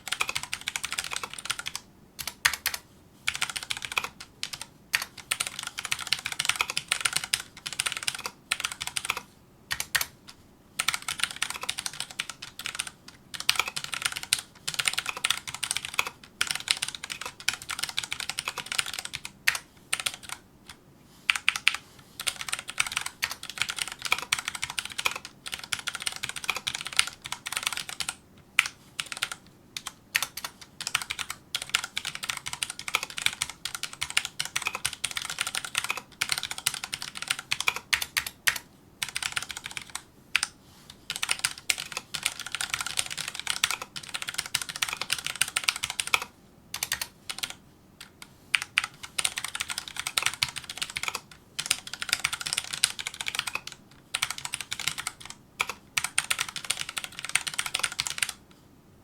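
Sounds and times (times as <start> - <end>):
mechanical keyboard typing: 0.0 - 10.2, 10.8 - 20.4, 21.3 - 58.4.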